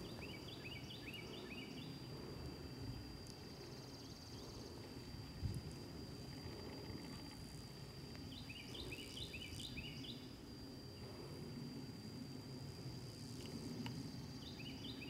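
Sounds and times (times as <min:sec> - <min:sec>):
wind rumble on microphone: 0:01.3 - 0:15.0.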